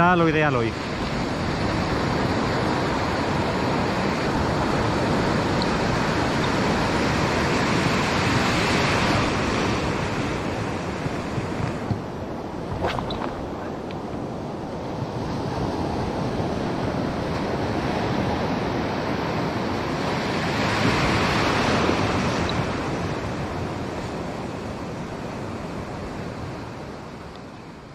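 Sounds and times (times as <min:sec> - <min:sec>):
sea surf washing over shore: 0:00.0 - 0:27.9.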